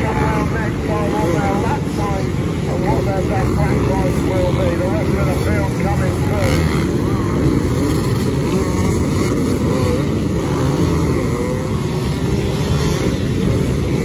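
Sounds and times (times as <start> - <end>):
dirt bike engines racing: 0.0 - 14.0.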